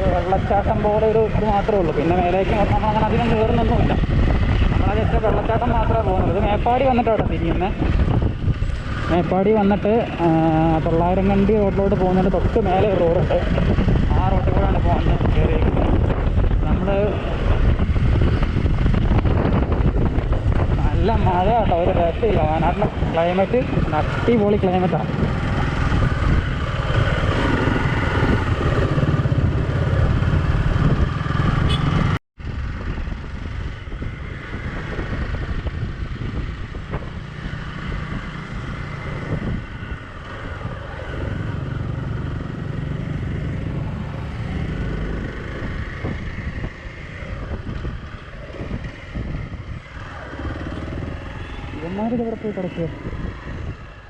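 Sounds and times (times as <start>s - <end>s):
motorcycle engine running: 7.7s - 53.8s.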